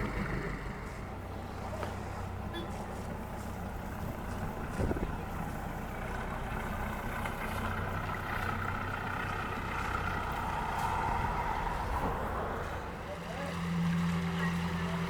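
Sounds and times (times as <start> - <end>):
engine humming and whining: 0.0 - 15.0.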